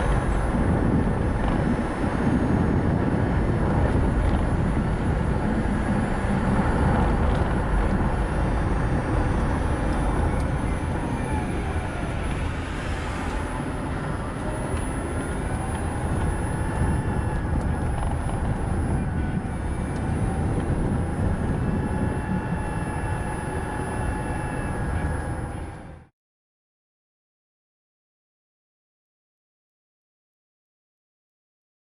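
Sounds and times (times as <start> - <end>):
tyre and road noise: 0.0 - 26.0
faint whining tones: 0.0 - 26.1.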